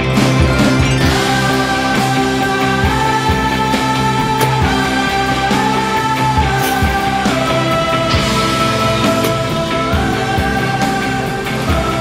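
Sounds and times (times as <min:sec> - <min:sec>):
drum beat: 0:00.0 - 0:10.8
sustained held notes: 0:00.0 - 0:12.0.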